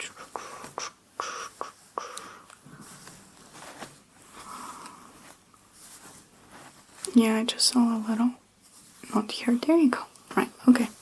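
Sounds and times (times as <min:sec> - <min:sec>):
hair rustling: 0:00.0 - 0:11.0.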